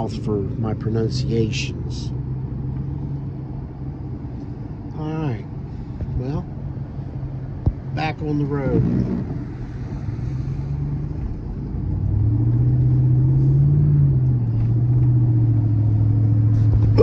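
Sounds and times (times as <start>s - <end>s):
road noise: 0.0s - 17.0s
vehicle engine: 0.0s - 17.0s.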